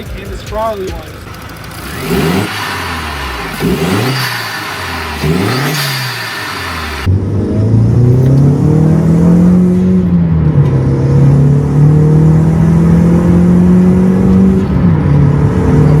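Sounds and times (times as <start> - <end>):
turbocharged car engine accelerating: 0.0 - 16.0.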